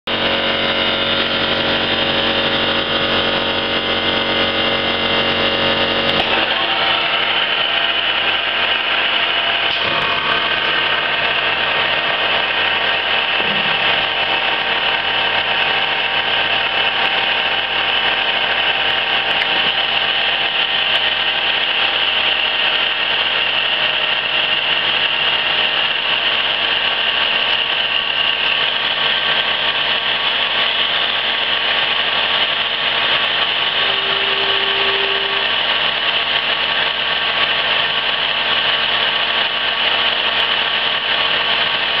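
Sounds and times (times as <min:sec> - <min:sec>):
lathe motor humming: 0:00.1 - 0:42.0.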